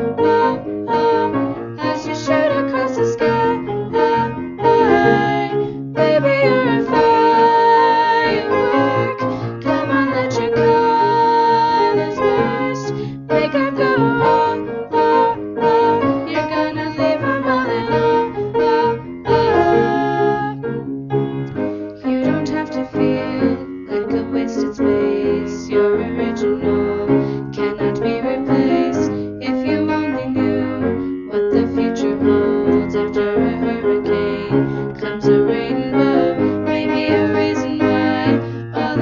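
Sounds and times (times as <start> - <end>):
women singing: 0.0 - 20.6, 22.0 - 39.0
piano chords: 0.0 - 39.0.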